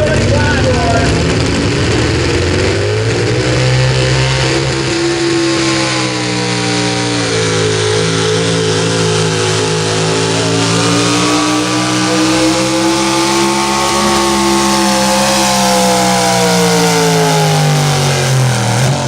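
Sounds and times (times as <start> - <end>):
truck engine at high revs: 0.0 - 19.0.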